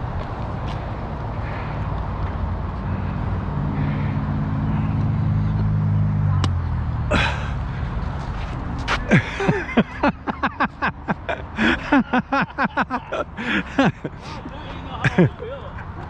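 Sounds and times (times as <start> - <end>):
outdoor background noise: 0.0 - 16.0
vehicle engine droning: 0.0 - 16.0.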